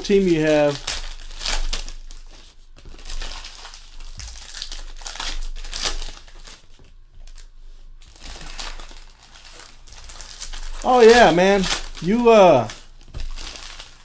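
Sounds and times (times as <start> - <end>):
foil wrappers crinkling: 0.0 - 14.0.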